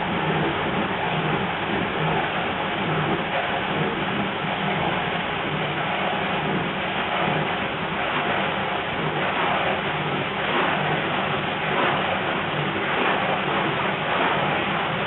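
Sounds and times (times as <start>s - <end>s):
churning water: 0.0s - 15.0s
low pulse: 0.0s - 15.0s
washing machine motor hum: 0.0s - 15.0s.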